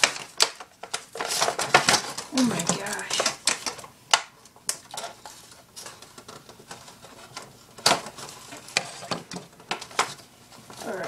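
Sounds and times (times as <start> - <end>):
packaging clicks and crinkles: 0.0 - 11.0.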